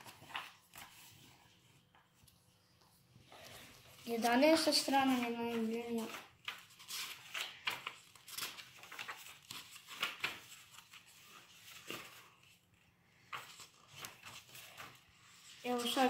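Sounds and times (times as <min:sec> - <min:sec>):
book pages flipping: 0:00.0 - 0:16.0.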